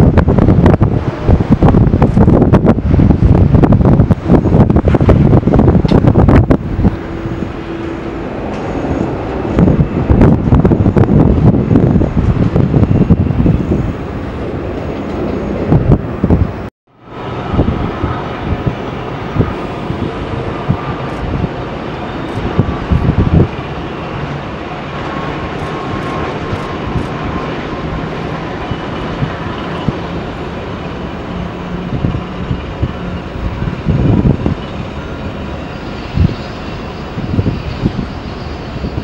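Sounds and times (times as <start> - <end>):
jet engine roar: 0.0 - 39.0
wind buffeting microphone: 0.0 - 39.0.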